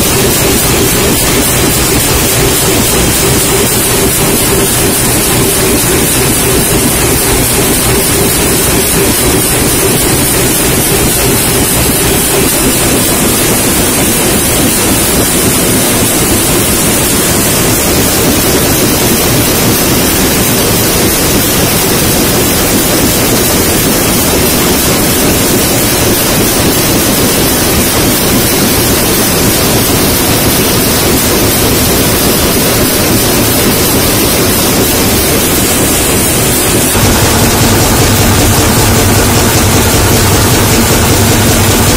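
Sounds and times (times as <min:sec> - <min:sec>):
production line machinery noise: 0:00.0 - 0:41.9.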